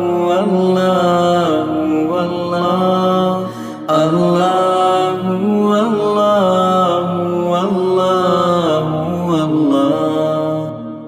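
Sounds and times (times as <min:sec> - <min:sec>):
devotional chanting voice: 0:00.0 - 0:11.0.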